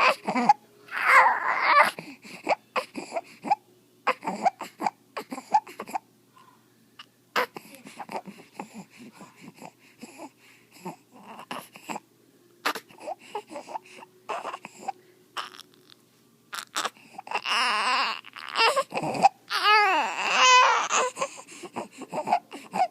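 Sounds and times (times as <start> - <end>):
infant crying: 0.0 - 6.0, 7.4 - 8.9, 9.6 - 12.0, 12.6 - 15.8, 16.5 - 22.9
infant breathing noisily: 1.8 - 6.6, 7.4 - 12.1, 12.7 - 15.7, 16.6 - 22.9.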